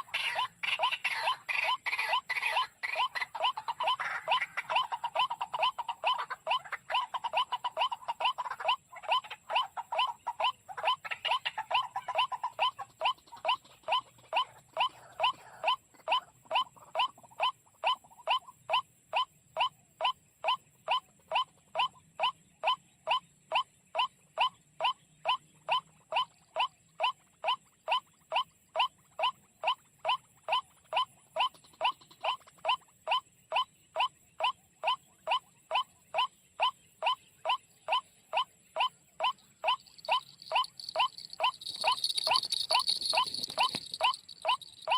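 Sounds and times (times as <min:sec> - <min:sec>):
bird chirps: 0:00.0 - 0:44.9
sharp bird calls: 0:00.0 - 0:44.9.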